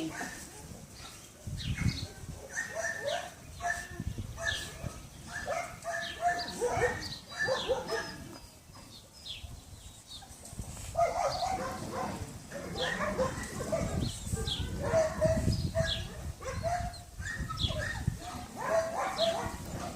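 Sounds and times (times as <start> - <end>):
dogs barking: 0.0 - 8.4, 10.9 - 19.9.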